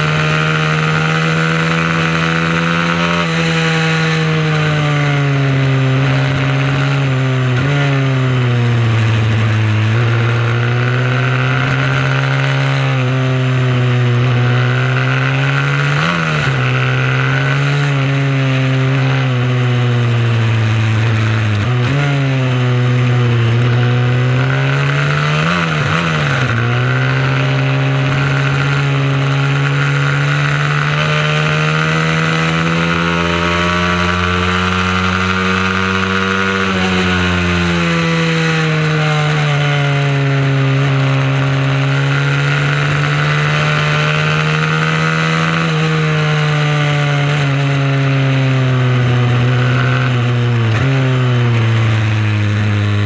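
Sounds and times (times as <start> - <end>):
mini motorcycle engine revving: 0.0 - 53.0.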